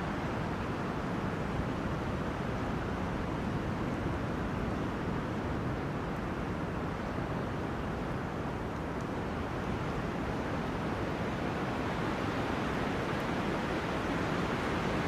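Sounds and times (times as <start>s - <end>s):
wind through forest trees: 0.0s - 15.0s.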